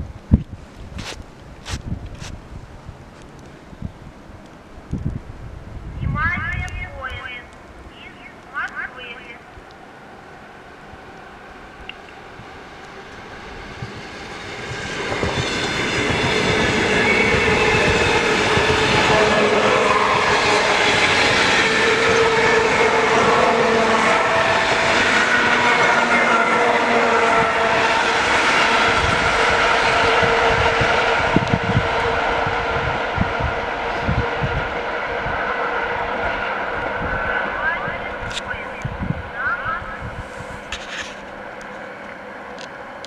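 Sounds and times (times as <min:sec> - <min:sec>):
locomotive and wheels on rails: 0:06.6 - 0:43.0.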